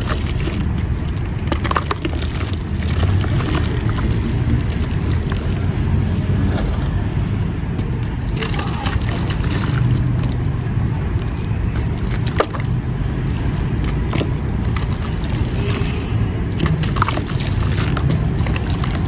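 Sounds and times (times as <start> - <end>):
low grinding crush: 0.0 - 19.0.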